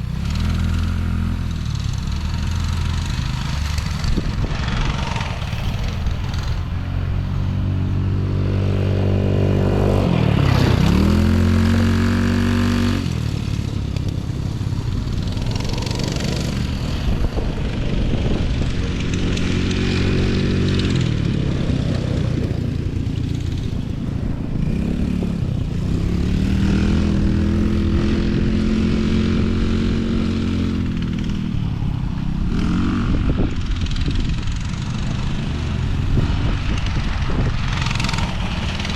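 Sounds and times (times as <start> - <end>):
off-road vehicle engine revving: 0.0 - 31.6.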